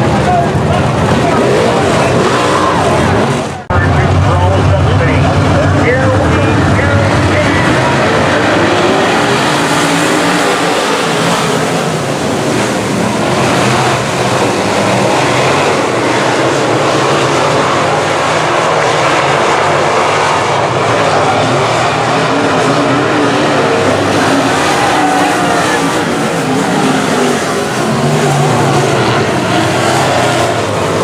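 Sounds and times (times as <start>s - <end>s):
race car engines droning: 0.0s - 31.0s.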